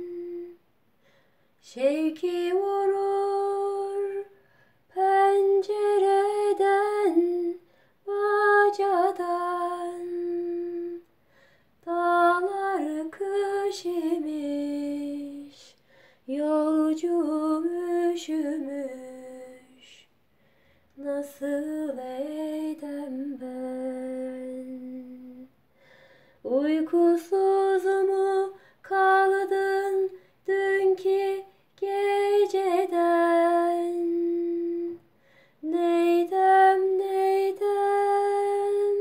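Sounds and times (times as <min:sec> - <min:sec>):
woman singing folk song: 0:00.0 - 0:00.6, 0:01.6 - 0:11.1, 0:11.8 - 0:20.0, 0:21.0 - 0:25.5, 0:26.4 - 0:39.0.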